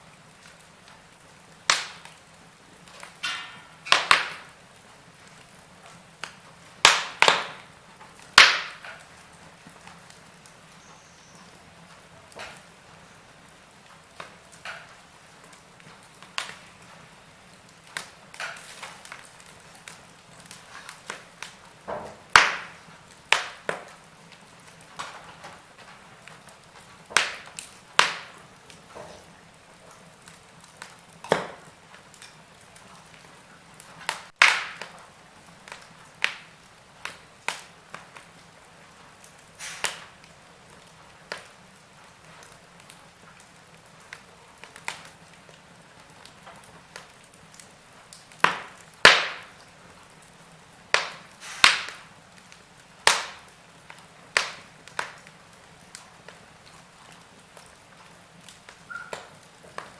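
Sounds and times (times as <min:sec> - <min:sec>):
wood fire crackling: 0:00.0 - 0:59.9
fire hiss: 0:00.2 - 0:56.6.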